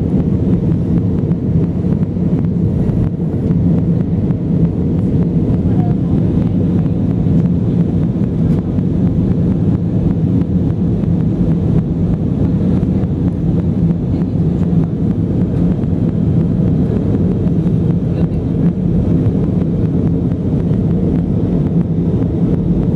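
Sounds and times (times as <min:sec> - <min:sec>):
aircraft engines rumbling: 0:00.0 - 0:22.9.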